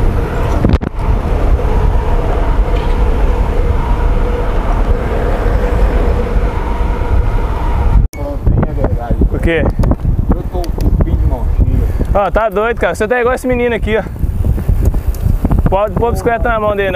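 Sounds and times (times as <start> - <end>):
bike tyres humming on asphalt: 0.0 - 16.9
wind rushing over microphone: 0.0 - 16.9.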